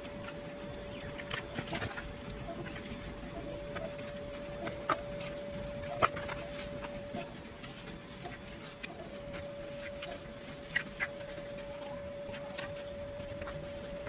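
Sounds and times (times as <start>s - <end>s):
faint high hum: 0.0s - 14.0s
hand tool raking compost: 0.0s - 14.0s.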